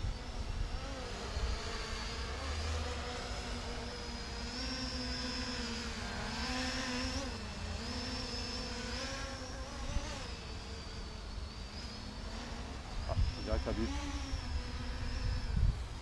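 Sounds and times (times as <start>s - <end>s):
model aircraft motors buzzing: 0.0s - 16.0s.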